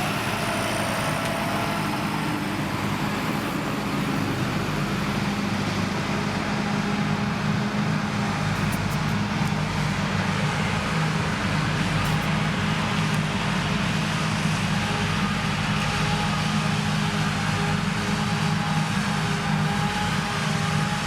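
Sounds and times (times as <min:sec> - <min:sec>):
forage harvester engine humming: 0:00.0 - 0:21.0.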